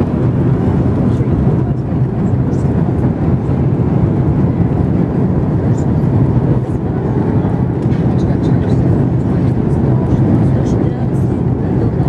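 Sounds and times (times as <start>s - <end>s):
rushing air: 0.0s - 11.9s
jet engines roaring: 0.0s - 12.0s.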